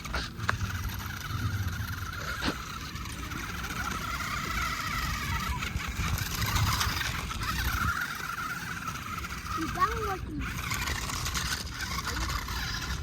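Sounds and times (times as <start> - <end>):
electric motor whining: 0.0 - 13.0
wheels rumbling on dirt: 0.0 - 13.0.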